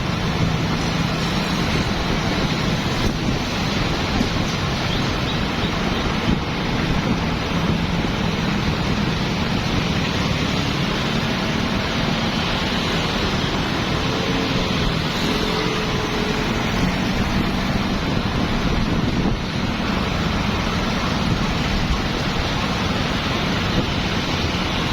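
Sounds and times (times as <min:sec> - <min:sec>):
motorbike and car engines: 0:00.0 - 0:24.9
wind on the microphone: 0:00.0 - 0:24.9.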